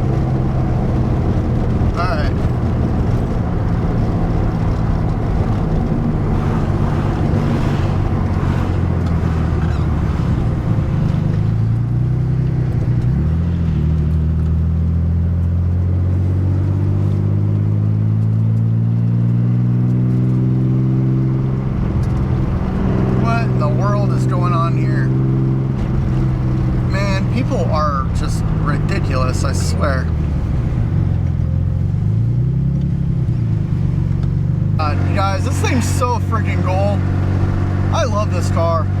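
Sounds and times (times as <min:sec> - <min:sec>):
car engine running from inside cabin: 0:00.0 - 0:39.0.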